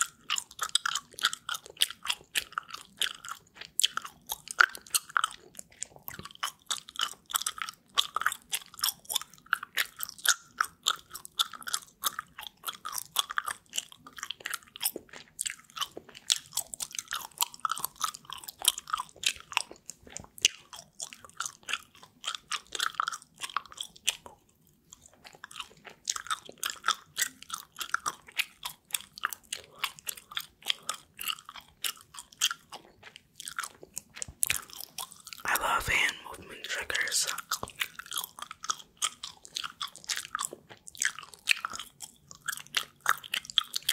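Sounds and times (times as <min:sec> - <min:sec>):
gum chewing mouth clicks: 0:00.0 - 0:43.9.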